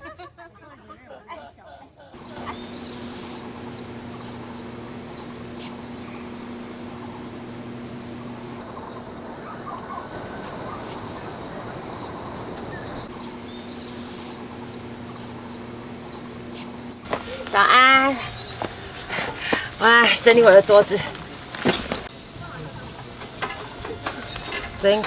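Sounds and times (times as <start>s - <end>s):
birds chirping: 2.2s - 25.0s
low hum: 2.2s - 25.0s
steady background hiss: 2.2s - 25.0s.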